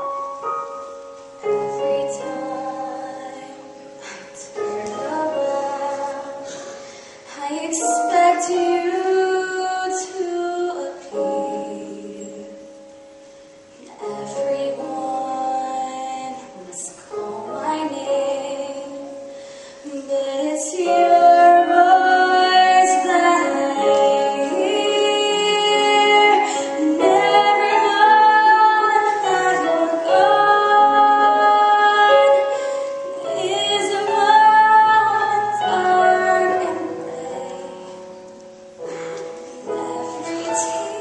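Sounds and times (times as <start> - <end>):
instrumental accompaniment: 0.0 - 41.0
woman singing into a microphone: 1.4 - 12.7, 13.8 - 38.2, 38.8 - 41.0.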